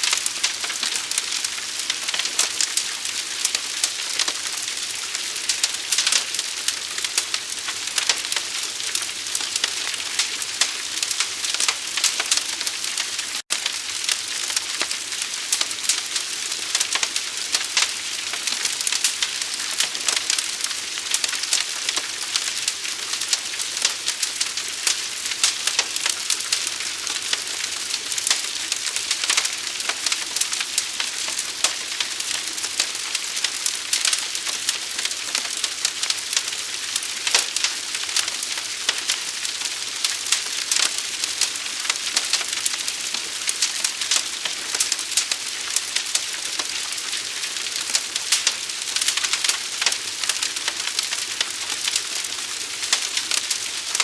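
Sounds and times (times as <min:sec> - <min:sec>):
large fire crackling: 0:00.0 - 0:54.0.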